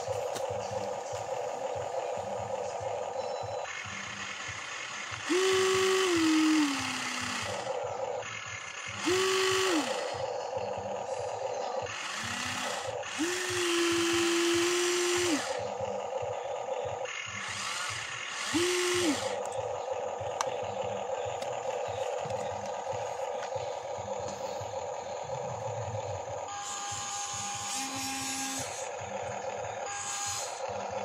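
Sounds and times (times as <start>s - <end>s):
electric motors whining: 0.0s - 31.0s
quiet steady motor whir: 0.0s - 31.0s.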